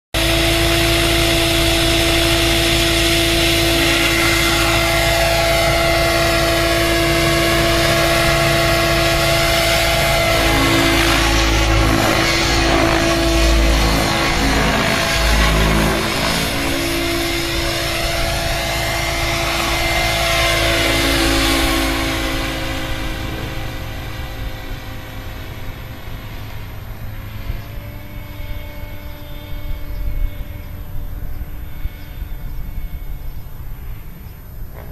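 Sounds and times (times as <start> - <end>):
model helicopter motor whine: 0.2 - 34.9.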